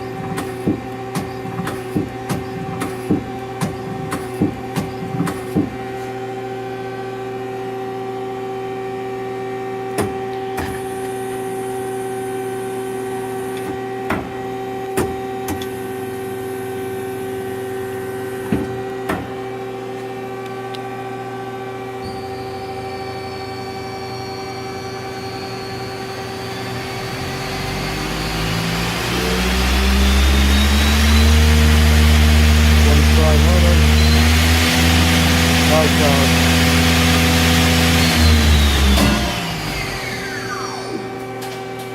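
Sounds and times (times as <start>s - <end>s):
lathe electrical and hydraulic hum: 0.0s - 41.9s
motor whine rising in pitch: 5.8s - 14.9s, 15.6s - 41.9s.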